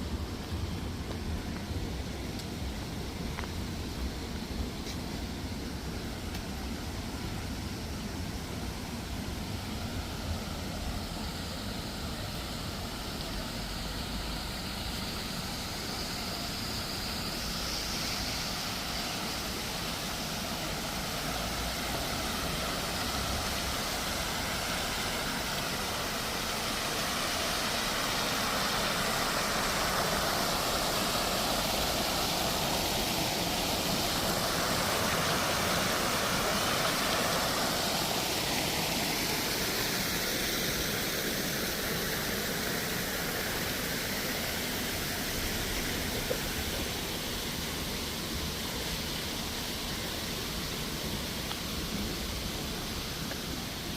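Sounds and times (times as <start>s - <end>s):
hiss of wet street: 0.0s - 53.9s.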